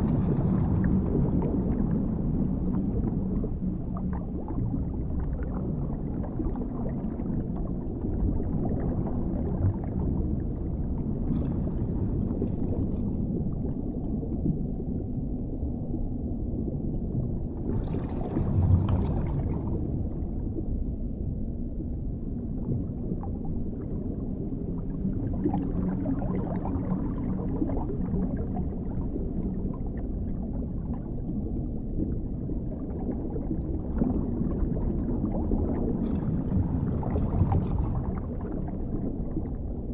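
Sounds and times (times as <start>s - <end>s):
deep underwater rumble: 0.0s - 39.9s
muffled gurgling: 0.0s - 39.9s.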